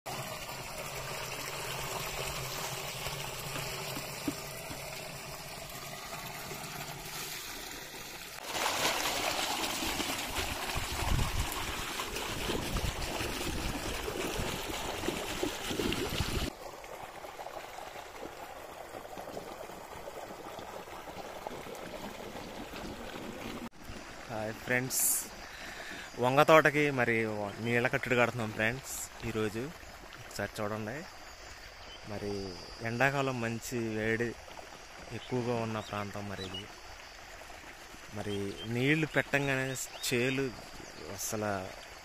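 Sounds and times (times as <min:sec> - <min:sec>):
water pouring into plastic drum: 0:00.1 - 0:26.3, 0:33.9 - 0:42.0
water gushing onto grass: 0:00.1 - 0:42.0
water running along channel: 0:00.1 - 0:42.0.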